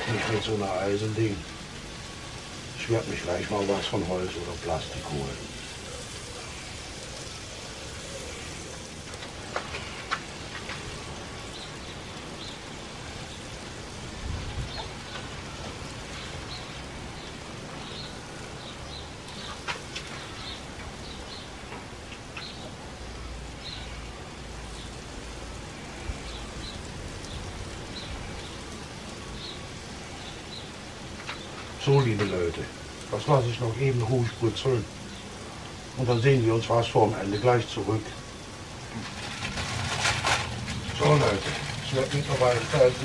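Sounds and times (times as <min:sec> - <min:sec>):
food sizzling on griddle: 0:00.0 - 0:43.0.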